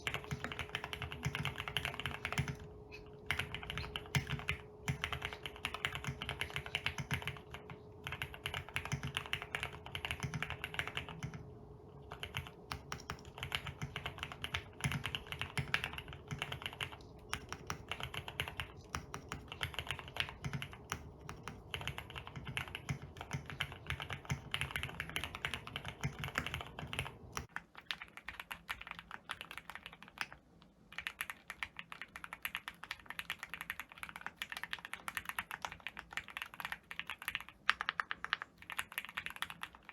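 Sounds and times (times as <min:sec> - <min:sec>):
faint steady hum: 0:00.0 - 0:39.9
fast keyboard typing: 0:00.0 - 0:39.9.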